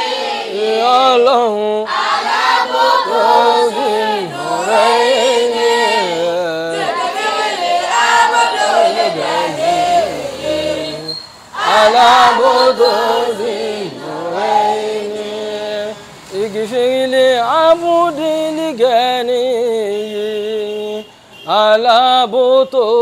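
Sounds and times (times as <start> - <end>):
voices chanting a lament: 0.0 - 18.7.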